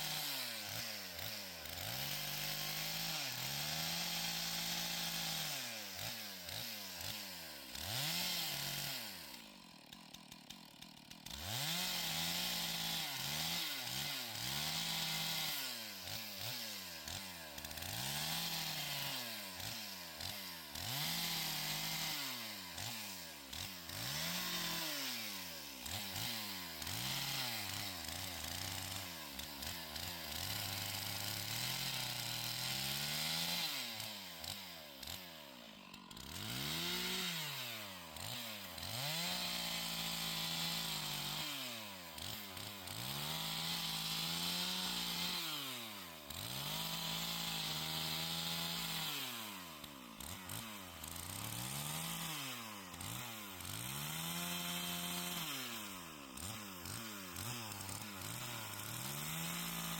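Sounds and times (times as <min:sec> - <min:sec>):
chainsaw revving through wood: 0:00.0 - 0:59.9.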